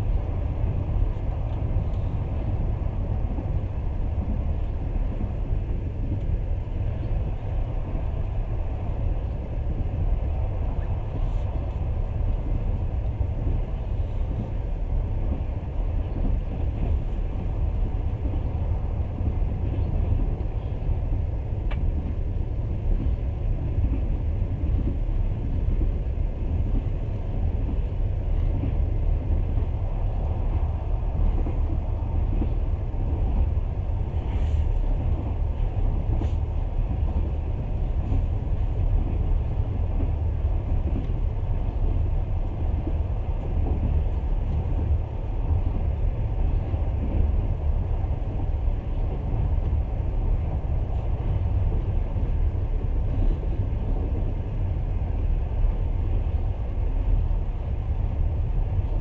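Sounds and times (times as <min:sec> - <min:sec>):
train carriage rumbling on rails: 0:00.0 - 0:59.0.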